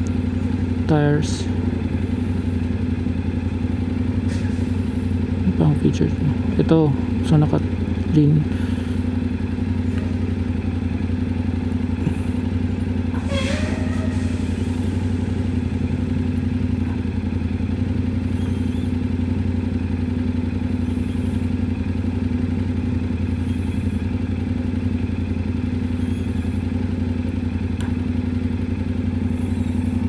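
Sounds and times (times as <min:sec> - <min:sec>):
motorcycle engine running steadily: 0:00.0 - 0:30.0.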